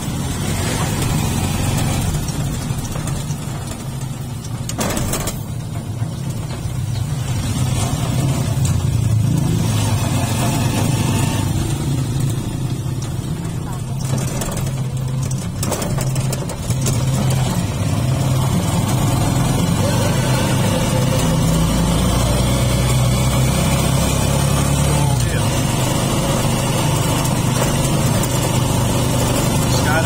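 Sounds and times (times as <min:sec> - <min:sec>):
motorcycle engine running: 0:00.0 - 0:30.0
road noise: 0:00.0 - 0:30.0.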